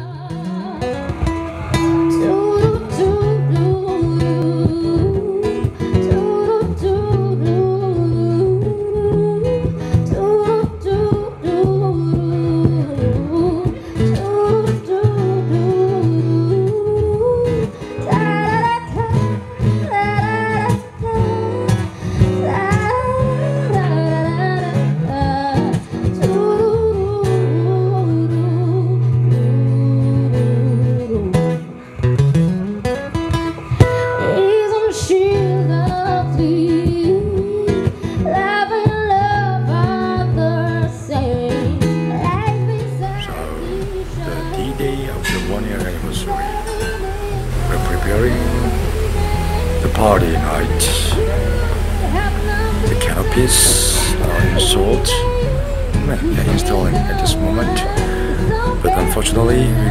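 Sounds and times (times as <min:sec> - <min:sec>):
song with voice and guitar: 0:00.0 - 0:59.9.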